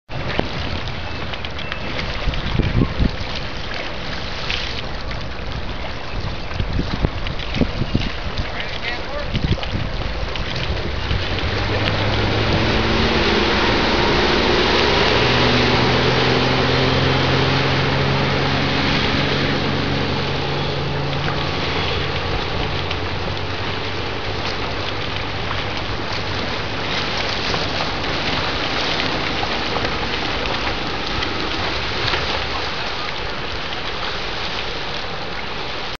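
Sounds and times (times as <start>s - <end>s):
boat engine running: 0.1s - 36.0s
wind and water rushing: 0.1s - 36.0s.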